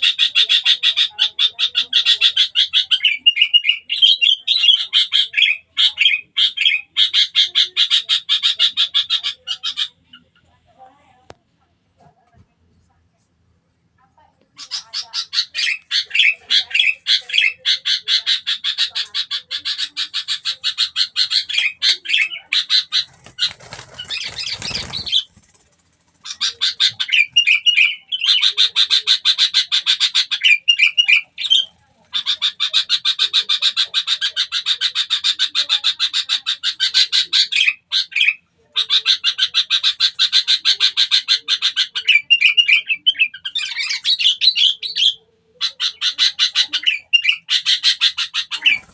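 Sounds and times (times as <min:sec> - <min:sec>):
bird chattering calls: 0:00.0 - 0:10.4, 0:14.6 - 0:48.9.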